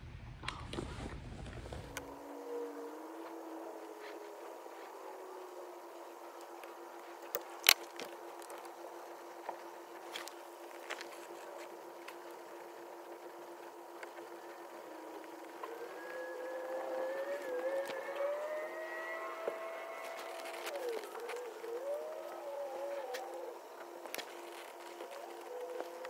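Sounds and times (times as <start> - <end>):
steady low hum: 0.0 - 26.0
wavering whine rising in pitch: 0.4 - 26.0.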